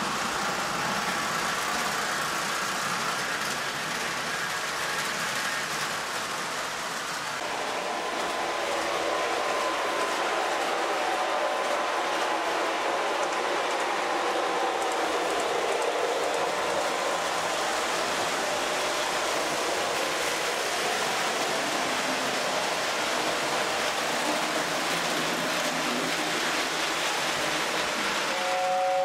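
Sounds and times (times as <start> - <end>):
toy train wheels rumbling on track: 0.0 - 29.0.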